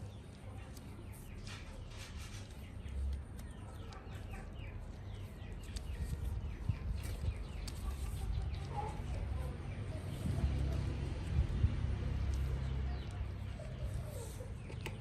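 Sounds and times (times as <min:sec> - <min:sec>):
low steady background rumble: 0:00.0 - 0:15.0
small birds chirping: 0:00.0 - 0:15.0.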